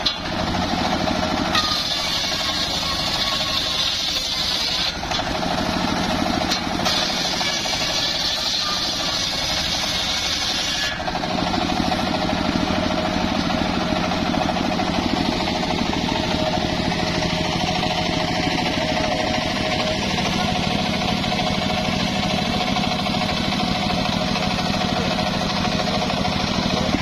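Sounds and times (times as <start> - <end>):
engine droning: 0.0 - 27.0
saw blade cutting wood: 0.0 - 27.0.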